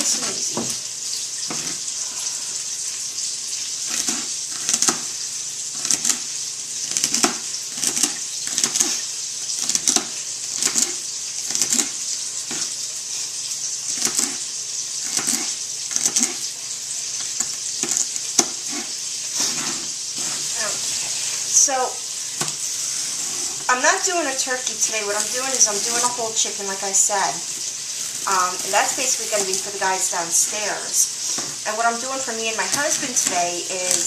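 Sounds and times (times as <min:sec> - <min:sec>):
sausage sizzling in a pot: 0:00.0 - 0:34.0.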